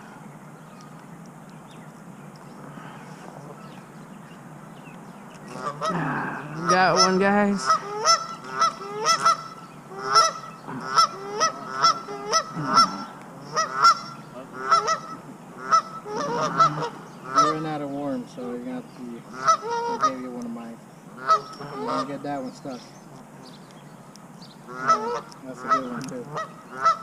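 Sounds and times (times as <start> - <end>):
geese honking: 2.5 - 4.4, 5.4 - 27.0.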